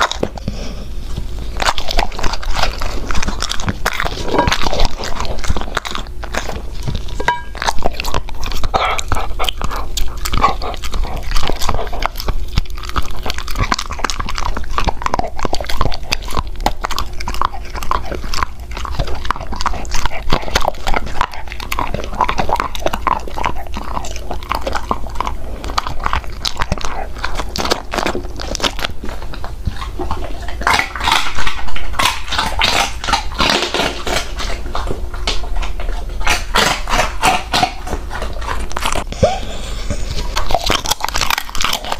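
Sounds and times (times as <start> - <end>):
dog crunching food: 0.0 - 41.9.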